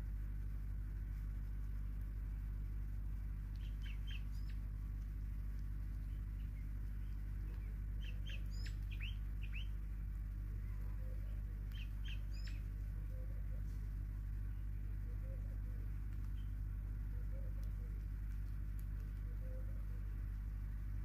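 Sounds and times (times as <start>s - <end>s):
steady low hum: 0.0s - 21.0s
small birds chirping: 1.1s - 21.0s.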